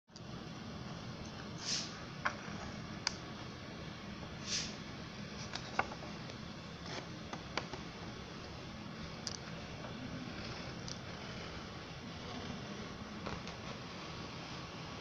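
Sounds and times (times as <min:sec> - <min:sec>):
background hiss: 0:00.2 - 0:15.0.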